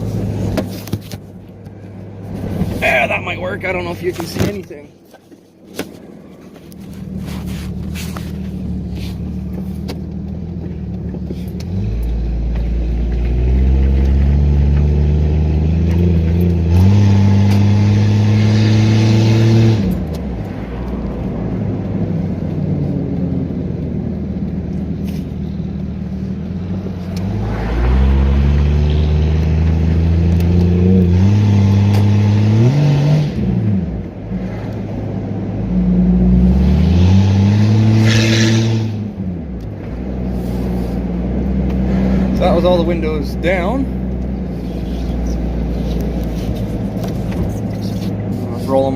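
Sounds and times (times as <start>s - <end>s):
car engine revving while driving: 7.0s - 48.9s.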